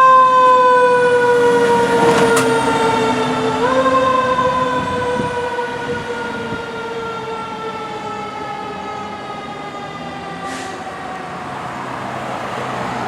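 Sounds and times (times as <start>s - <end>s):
fire truck siren: 0.0s - 13.0s.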